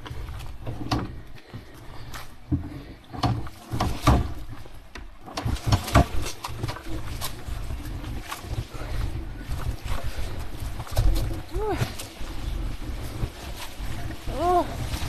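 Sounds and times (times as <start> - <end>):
knocks and rattles: 2.4 - 15.0.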